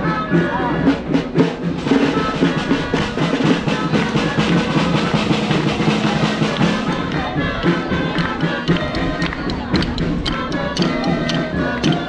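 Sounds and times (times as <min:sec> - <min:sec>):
parade drum music: 0:00.0 - 0:12.0.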